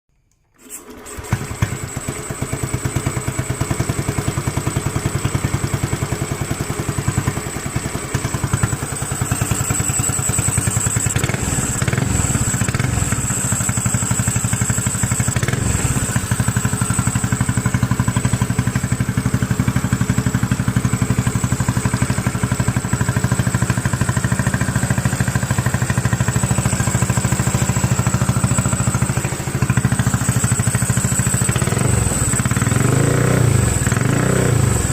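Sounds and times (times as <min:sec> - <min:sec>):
engine idling: 0:01.4 - 0:34.9.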